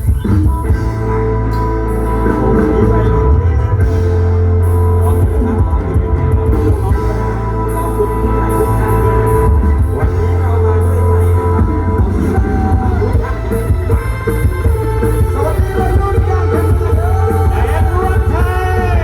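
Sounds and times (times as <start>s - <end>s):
heavy bass line: 0.0s - 19.0s
loud rock music: 0.0s - 19.0s.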